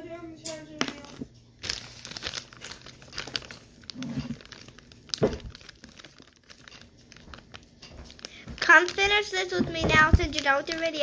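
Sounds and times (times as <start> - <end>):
slime crackling and popping: 0.9 - 11.0.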